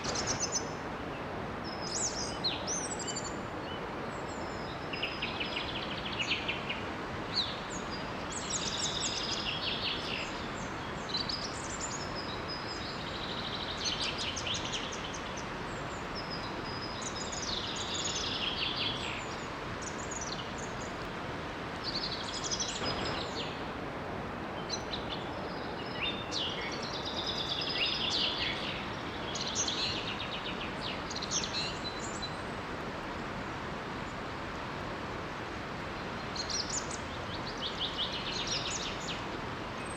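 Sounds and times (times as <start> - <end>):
small waterfall rushing: 0.0 - 39.9
songbirds singing: 0.0 - 39.9.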